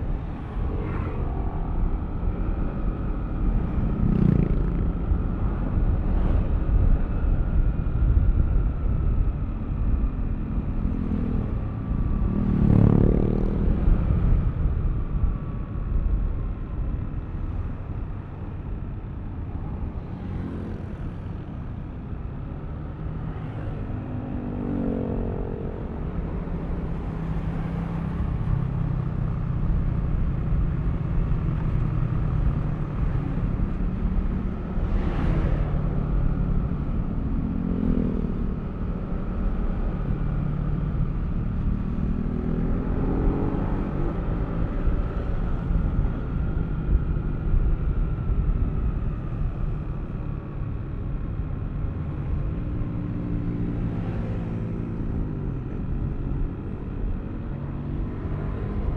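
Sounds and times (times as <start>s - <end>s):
road and wind noise: 0.0s - 58.9s.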